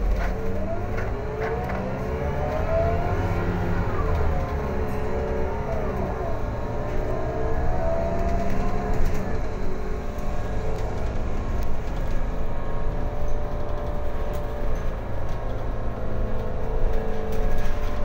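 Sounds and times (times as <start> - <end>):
bus engine drone and road rumble: 0.0 - 18.0.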